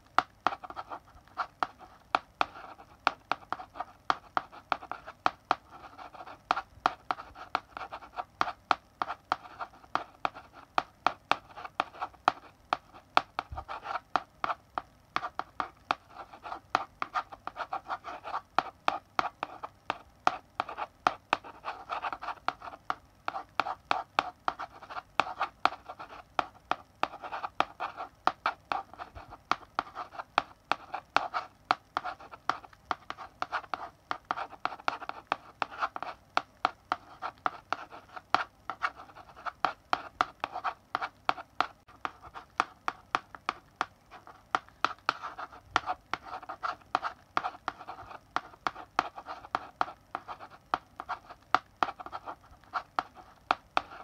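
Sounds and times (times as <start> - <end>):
chalk writing on a blackboard: 0.2 - 54.0.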